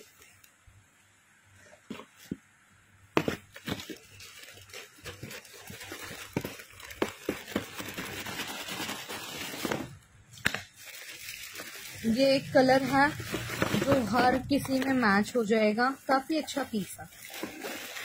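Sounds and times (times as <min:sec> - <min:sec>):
paper packaging crinkling: 0:03.2 - 0:18.0.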